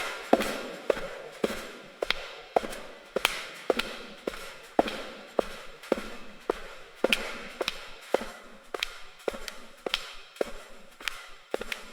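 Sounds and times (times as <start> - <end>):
footsteps echoing in hallway: 0.0 - 11.9.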